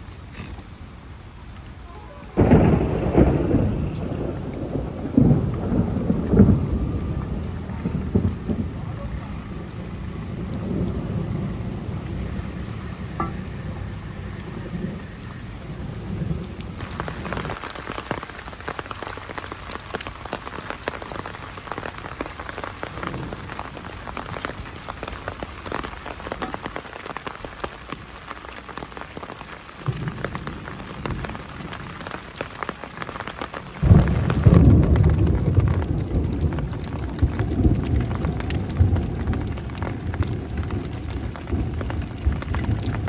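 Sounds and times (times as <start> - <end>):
rain pattering on a surface: 0.0 - 43.0.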